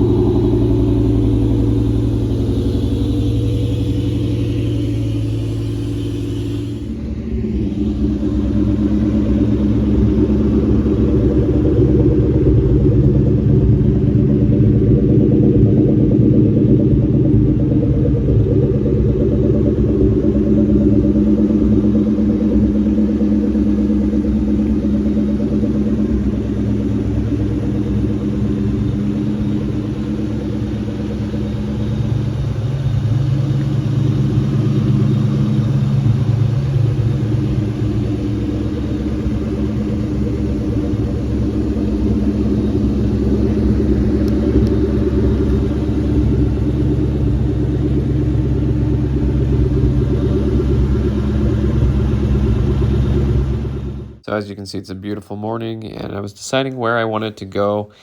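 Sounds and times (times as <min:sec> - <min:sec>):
car engine running at low revs: 0:00.0 - 0:58.0.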